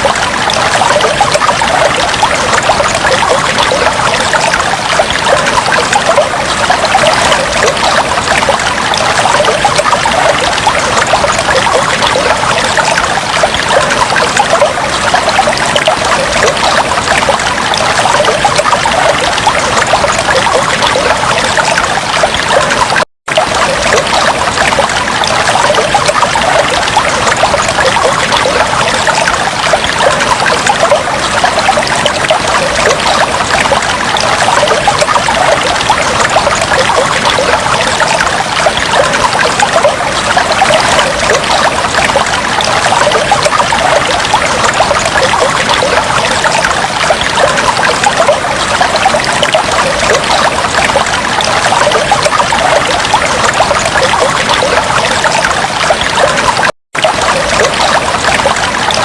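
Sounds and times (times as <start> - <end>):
aquarium water trickling and bubbling: 0.0 - 59.0.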